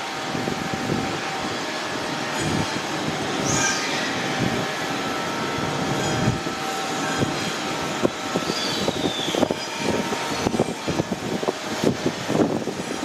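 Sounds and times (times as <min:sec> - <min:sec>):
high squeal of train: 0:00.0 - 0:13.0
train rumbling and hissing: 0:00.0 - 0:13.0.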